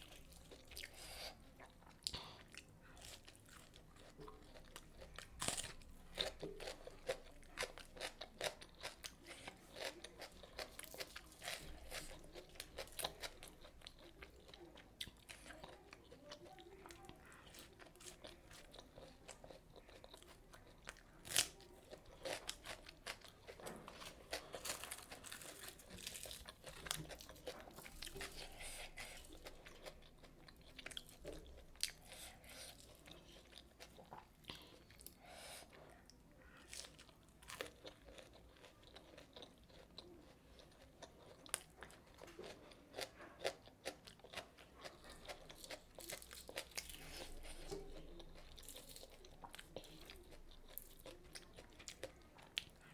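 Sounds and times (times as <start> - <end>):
chewing crunchy food: 0.0 - 52.9.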